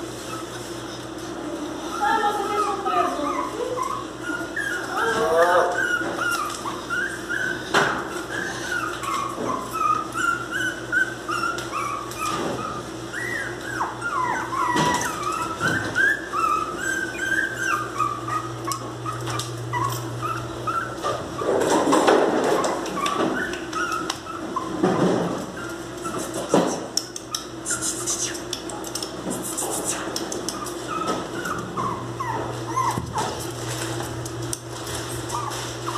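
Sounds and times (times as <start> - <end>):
puppy whining and whimpering: 0.0 - 33.9, 34.8 - 35.9.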